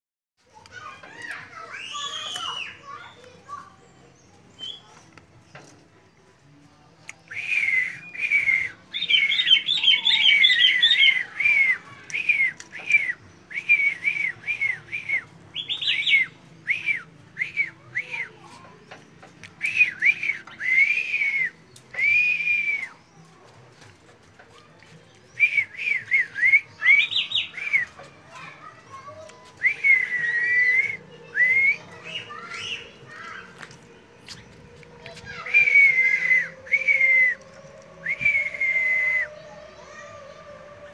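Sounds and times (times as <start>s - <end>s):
songbird singing in whistles: 0.9s - 6.2s, 7.0s - 24.0s, 24.8s - 40.9s.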